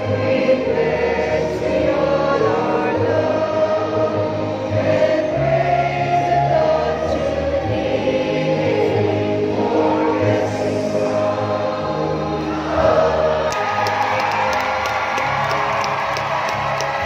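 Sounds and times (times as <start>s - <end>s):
group singing a hymn: 0.0s - 15.4s.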